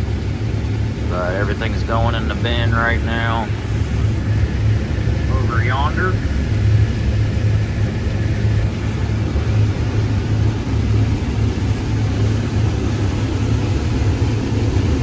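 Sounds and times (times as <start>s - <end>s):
combine engine drone: 0.0s - 15.0s.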